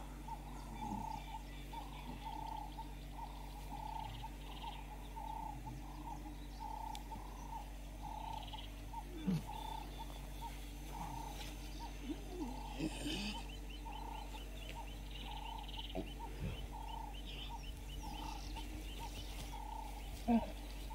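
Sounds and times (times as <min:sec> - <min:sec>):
small animal calling: 0:00.2 - 0:20.9.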